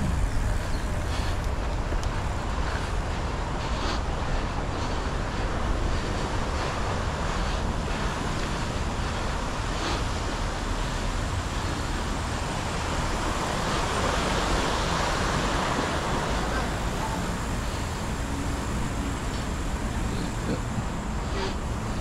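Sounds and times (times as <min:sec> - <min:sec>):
bike tyre rumble: 0:00.0 - 0:22.0
wind on microphone: 0:00.0 - 0:22.0.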